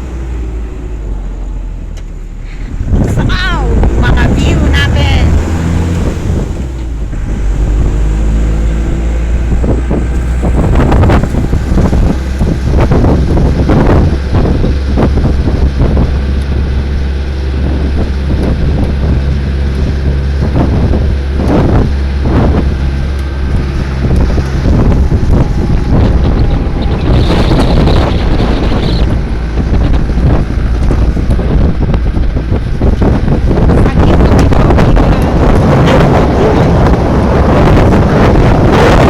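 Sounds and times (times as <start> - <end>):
vehicle engine drone: 0.0 - 39.0
wind buffeting microphone: 0.0 - 39.0.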